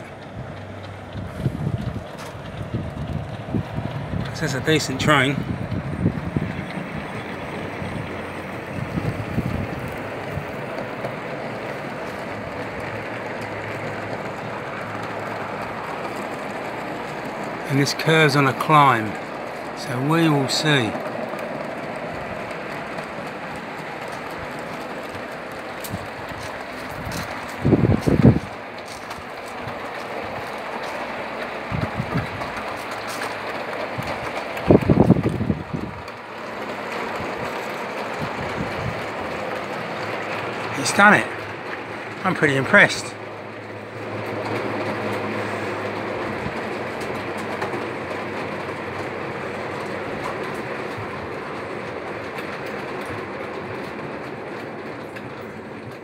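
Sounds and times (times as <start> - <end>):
model train rolling on track: 0.0 - 56.0.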